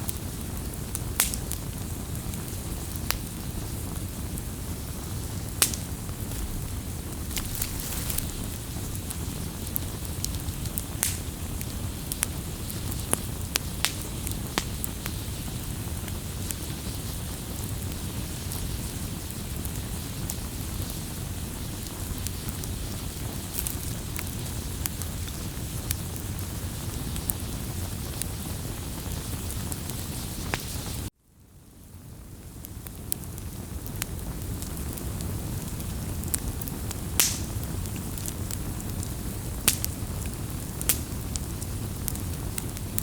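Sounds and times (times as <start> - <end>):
wood crackles and pops: 0.0 - 31.1, 32.3 - 43.0
campfire low rush: 0.0 - 43.0.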